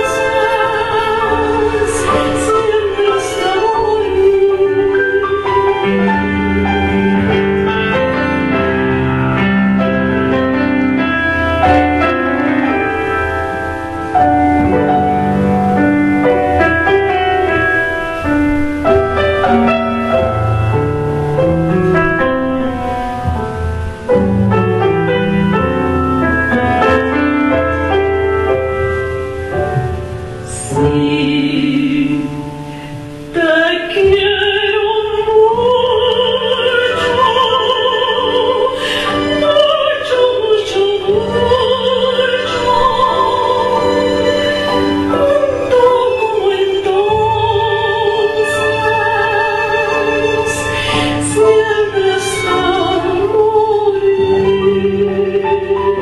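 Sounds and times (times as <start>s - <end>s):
piano: 0.0s - 56.0s
soprano singing with vibrato: 0.0s - 56.0s
violin: 0.0s - 56.0s.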